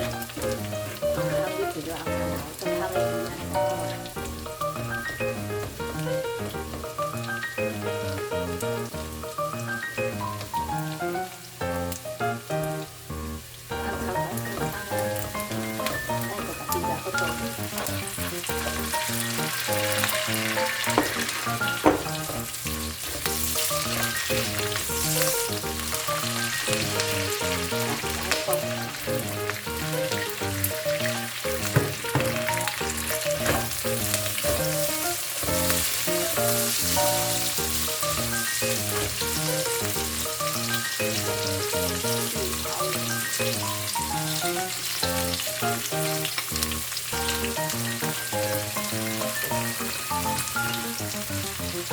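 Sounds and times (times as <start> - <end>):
stirring and sharp knocks: 0.0 - 8.2, 13.7 - 51.9
background music with held notes: 0.0 - 51.9
food sizzling in a pan: 0.0 - 51.9.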